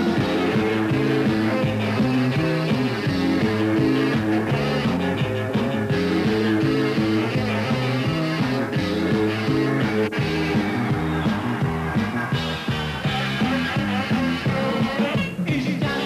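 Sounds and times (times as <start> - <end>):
live ska band playing: 0.0 - 16.0.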